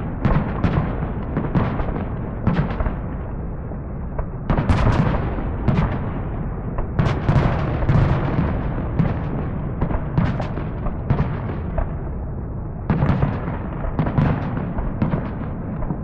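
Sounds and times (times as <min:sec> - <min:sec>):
fireworks bangs and cracks: 0:00.0 - 0:12.2, 0:12.8 - 0:16.0
continuous rumble: 0:00.0 - 0:16.0.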